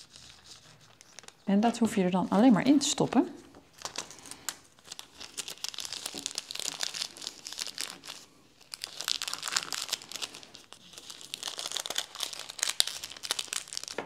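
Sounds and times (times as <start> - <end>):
plastic film crackling: 0.0 - 14.0.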